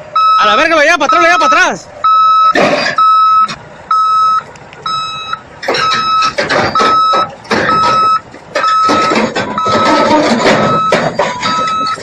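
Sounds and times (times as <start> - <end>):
heavy machine engine: 0.0 - 12.0
reversing alarm beeping: 0.2 - 12.0.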